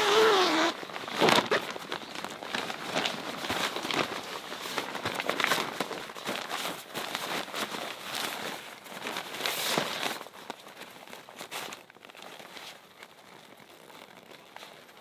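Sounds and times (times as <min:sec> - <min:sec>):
material rustling and crinkling: 0:00.0 - 0:15.0.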